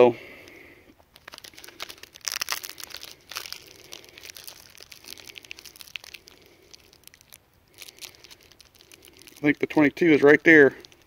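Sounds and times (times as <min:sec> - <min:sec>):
plastic packaging crinkling: 0:01.0 - 0:11.0.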